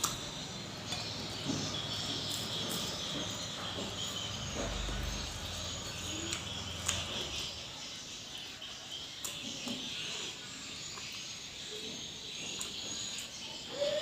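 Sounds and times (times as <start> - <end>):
eating clicks and mouth noises: 0.0 - 7.7, 8.3 - 13.4
insects chirping: 0.0 - 14.0.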